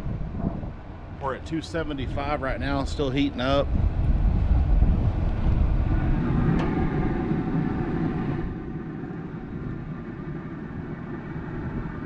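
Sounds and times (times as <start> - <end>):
grill fan and fire rushing: 0.0 - 12.0.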